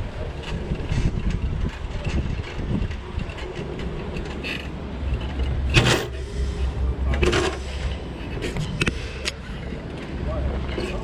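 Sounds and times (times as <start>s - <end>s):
bicycle rattling and creaking: 0.0s - 11.0s
wind rumbling on microphone: 0.0s - 11.0s.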